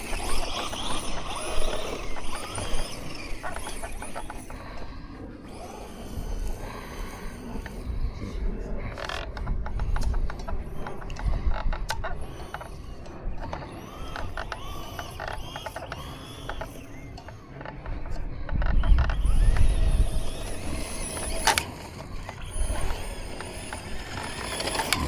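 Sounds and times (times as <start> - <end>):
rc truck motor whining: 0.0 - 25.0.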